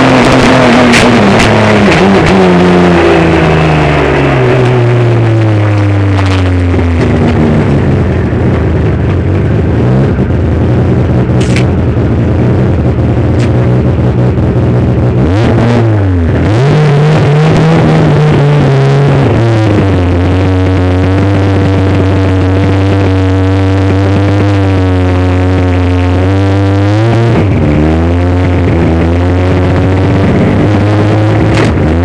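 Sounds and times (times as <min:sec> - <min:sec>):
car engine revving high: 0:00.0 - 0:32.0.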